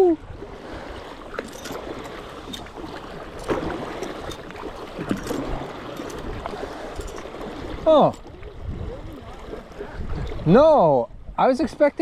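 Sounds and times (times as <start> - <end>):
paddle splashes: 0.1 - 10.6.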